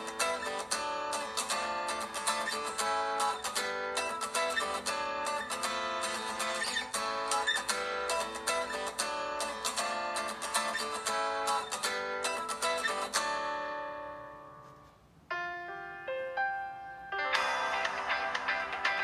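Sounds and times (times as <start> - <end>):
plucked guitar-like ringtone: 0.0 - 14.6, 17.1 - 19.0.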